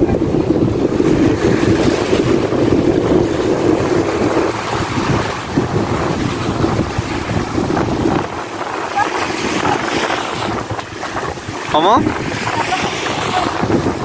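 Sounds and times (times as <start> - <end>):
waves washing onto shore: 0.0 - 14.0
wind buffeting microphone: 0.0 - 14.0.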